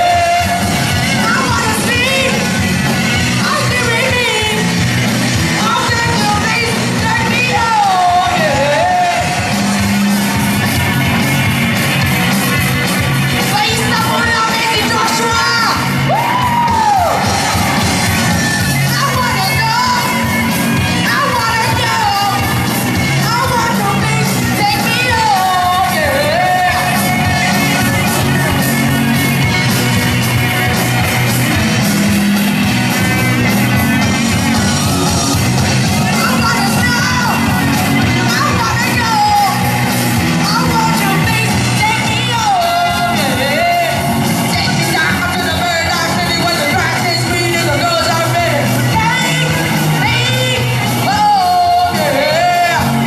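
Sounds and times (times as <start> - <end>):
bass guitar: 0.0 - 53.0
distorted electric guitars: 0.0 - 53.0
drum kit: 0.0 - 53.0
pitch-bending lead melody: 0.0 - 53.0.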